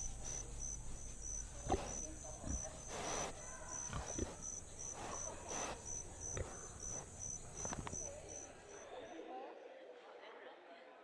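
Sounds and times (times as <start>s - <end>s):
insect chirping: 0.0s - 8.9s.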